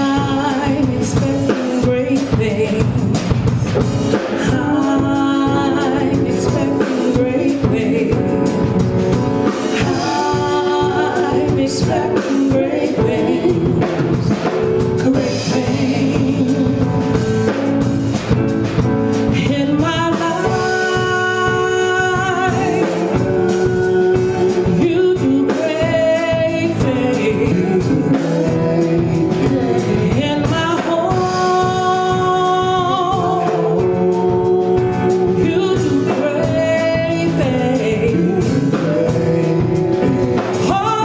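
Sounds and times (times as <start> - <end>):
woman singing with vibrato: 0.0 - 18.5, 19.2 - 41.0
instrumental accompaniment with drums: 0.0 - 41.0.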